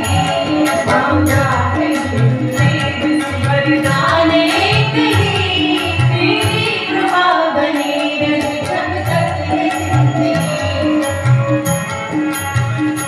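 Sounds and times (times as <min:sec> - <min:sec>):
woman singing: 0:00.0 - 0:11.5
harmonium: 0:00.0 - 0:13.0
tabla drumming: 0:00.0 - 0:13.0.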